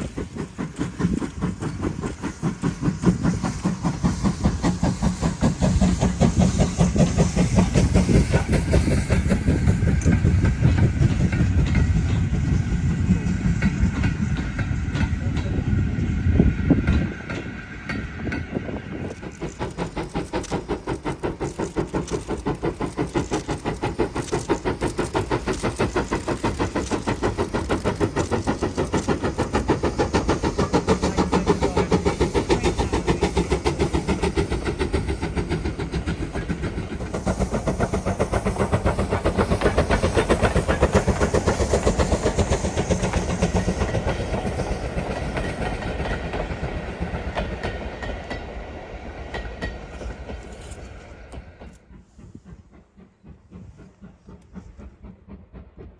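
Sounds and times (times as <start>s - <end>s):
steam locomotive exhaust beats: 0.0s - 55.9s.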